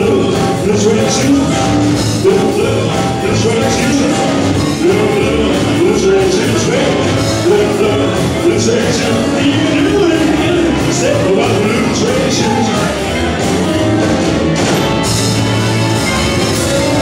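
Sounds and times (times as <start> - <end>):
man singing: 0.0 - 14.2
rock band playing loudly: 0.0 - 17.0.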